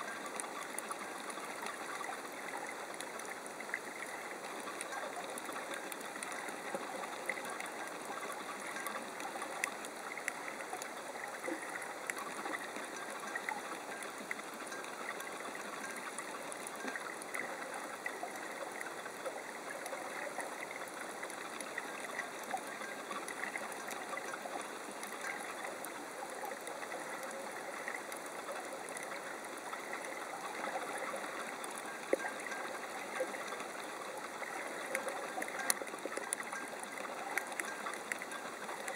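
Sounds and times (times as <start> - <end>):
fine crackling clicks: 0.0 - 38.9.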